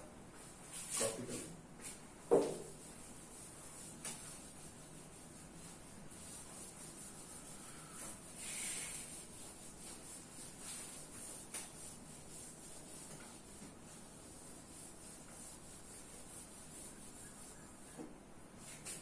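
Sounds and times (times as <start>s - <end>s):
duster swishing on whiteboard: 0.3s - 19.0s.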